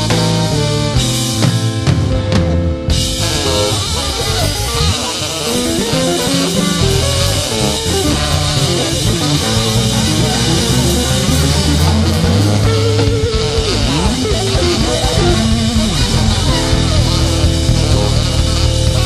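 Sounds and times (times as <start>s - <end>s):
bass guitar: 0.0s - 19.0s
drum kit: 0.0s - 19.0s
electric guitar: 0.0s - 19.0s.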